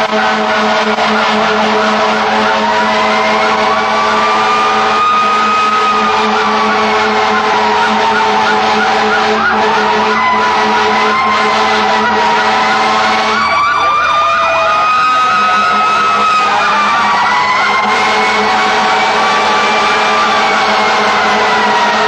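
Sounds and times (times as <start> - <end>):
fire truck sirens wailing: 0.0 - 22.0.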